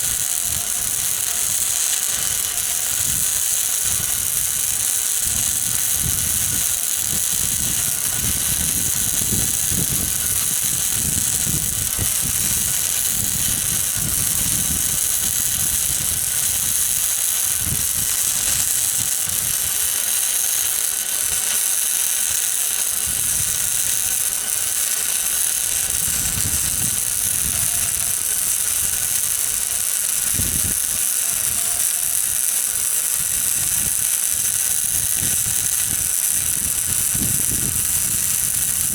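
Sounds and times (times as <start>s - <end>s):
welding arc hiss: 0.0s - 38.9s.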